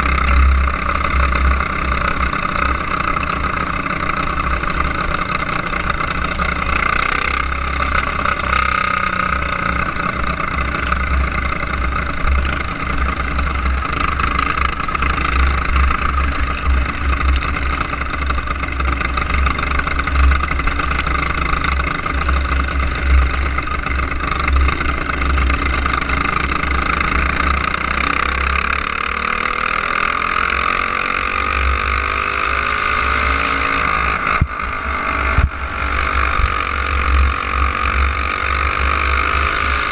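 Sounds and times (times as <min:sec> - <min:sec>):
kart engine running at speed: 0:00.0 - 0:39.9.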